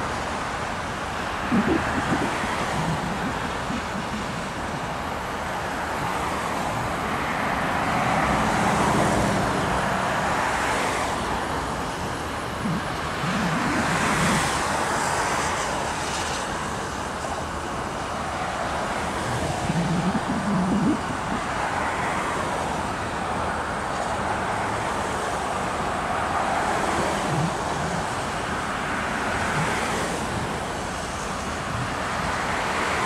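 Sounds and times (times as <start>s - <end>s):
road traffic noise: 0.0s - 33.0s.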